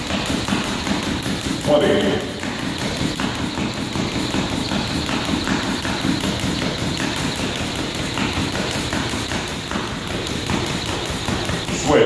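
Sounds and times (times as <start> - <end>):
jump rope ticking on wooden floor: 0.0 - 12.0
light footfalls: 0.0 - 12.0.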